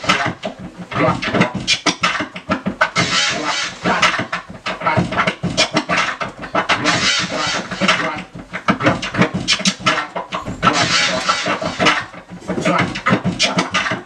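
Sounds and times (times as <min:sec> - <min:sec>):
vinyl record scratching: 0:00.0 - 0:14.0.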